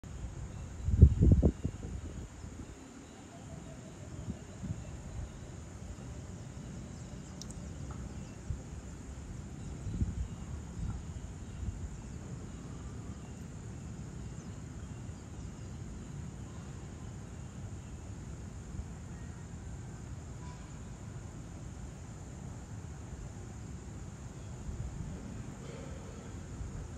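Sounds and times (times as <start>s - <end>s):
insects chirring: 0.1s - 26.9s.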